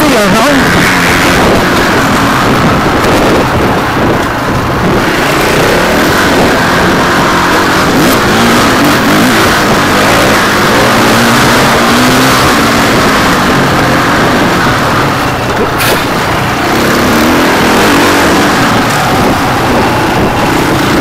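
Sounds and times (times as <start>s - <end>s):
dirt bike engine revving: 0.0s - 21.0s
wind rush on microphone: 0.0s - 21.0s.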